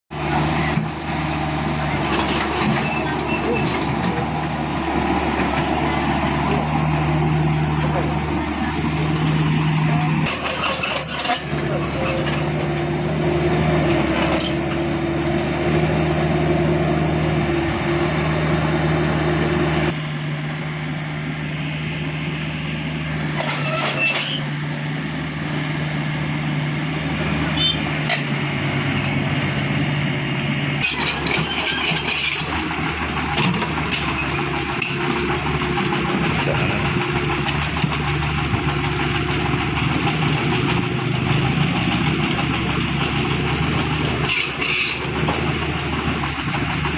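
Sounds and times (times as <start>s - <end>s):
engine running: 0.1s - 46.9s.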